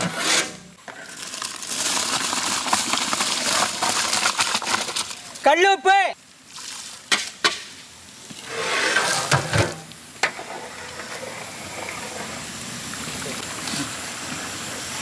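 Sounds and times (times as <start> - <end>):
pot of water boiling: 0.8 - 5.5, 6.2 - 15.0.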